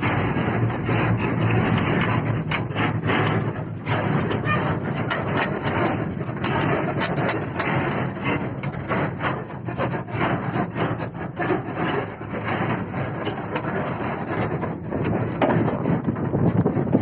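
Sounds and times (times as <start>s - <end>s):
excavator diesel engine rumbling: 0.0s - 17.0s
sharp knocks and scraping: 0.0s - 17.0s.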